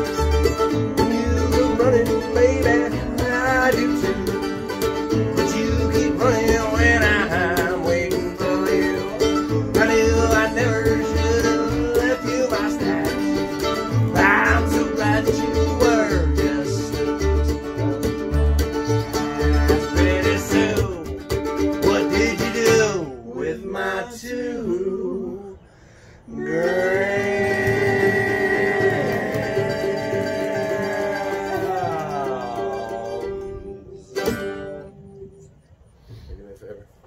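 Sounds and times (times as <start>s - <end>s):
mandolin melody: 0.0s - 23.2s, 26.4s - 35.6s
upright bass plucking: 0.0s - 24.0s, 26.3s - 35.8s
bluegrass string band playing: 0.0s - 36.3s.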